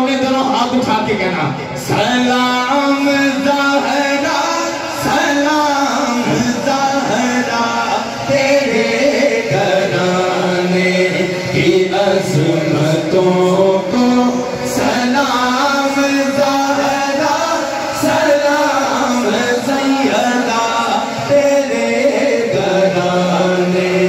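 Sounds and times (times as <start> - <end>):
men chanting devotional song: 0.0 - 24.0.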